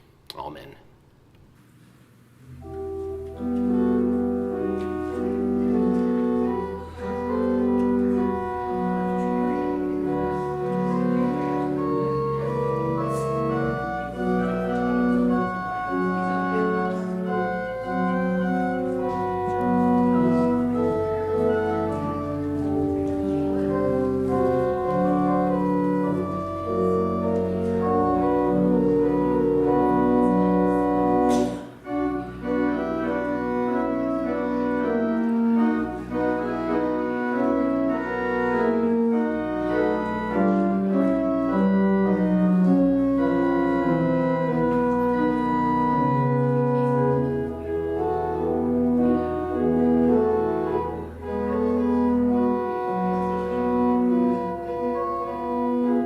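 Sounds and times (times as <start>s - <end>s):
church organ playing chords: 2.3s - 56.0s.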